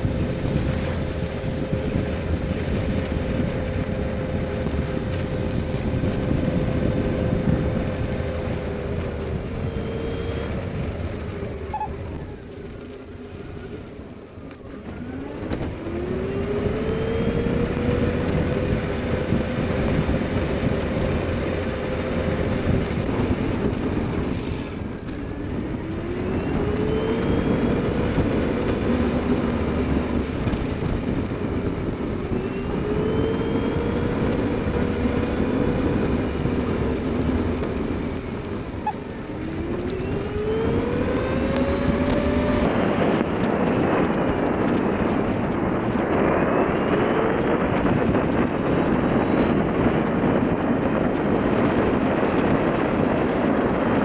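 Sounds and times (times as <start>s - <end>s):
tyres rushing on wet road: 0.0s - 24.4s, 25.0s - 54.0s
engine accelerating through gears: 0.0s - 54.0s
wind: 0.0s - 54.0s.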